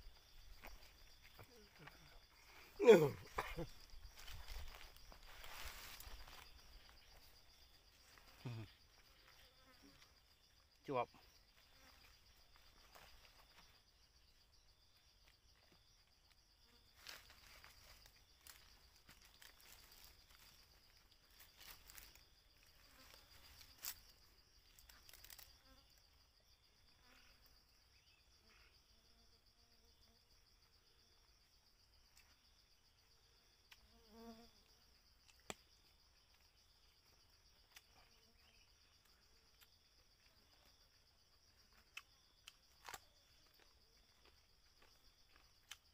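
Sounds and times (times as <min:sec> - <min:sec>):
high-pitched insect trill: 0:00.0 - 0:45.9.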